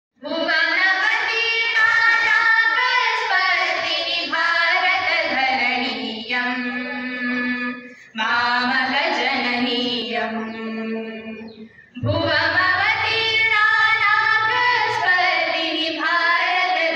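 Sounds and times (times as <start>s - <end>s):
girls singing together: 0.2s - 16.9s.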